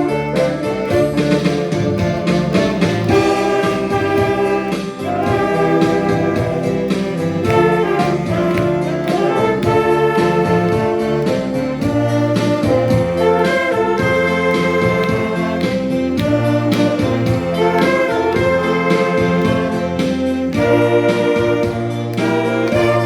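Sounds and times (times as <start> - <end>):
instrumental accompaniment: 0.0 - 23.0
saxophone ensemble melody: 0.0 - 23.0.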